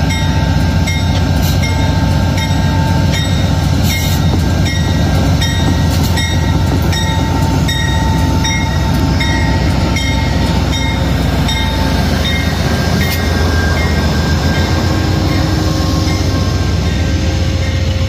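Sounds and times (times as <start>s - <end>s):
diesel locomotive engine drone: 0.0s - 18.0s
locomotive bell ringing: 0.0s - 18.0s.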